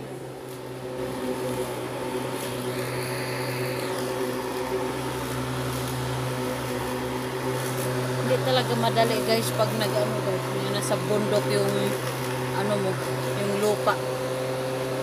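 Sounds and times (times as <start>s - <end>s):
lawnmower running: 0.0s - 15.0s.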